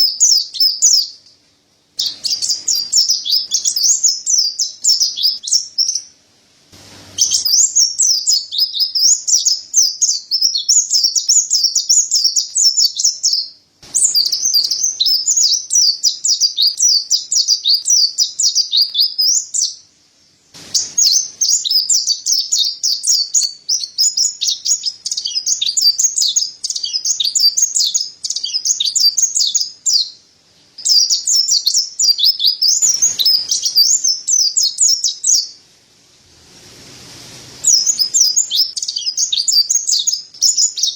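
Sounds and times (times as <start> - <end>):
bird twittering: 2.0 - 6.1, 7.2 - 19.8, 20.7 - 30.2, 30.8 - 35.6, 37.6 - 40.9.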